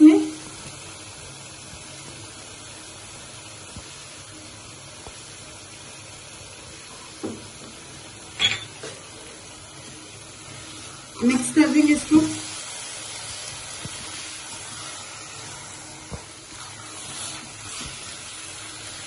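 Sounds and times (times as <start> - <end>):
food sizzling in a wok: 0.0 - 19.0.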